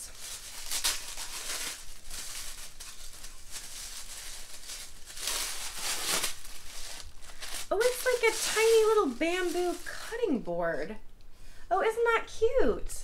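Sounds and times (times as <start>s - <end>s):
tissue paper rustling: 0.0s - 10.5s.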